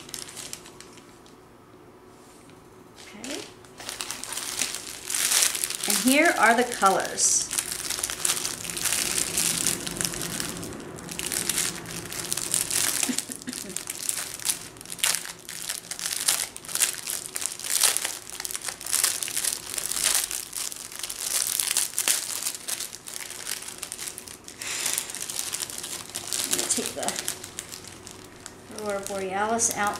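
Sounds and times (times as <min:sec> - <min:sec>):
plastic packaging crinkling: 0:00.0 - 0:01.4, 0:03.0 - 0:29.9.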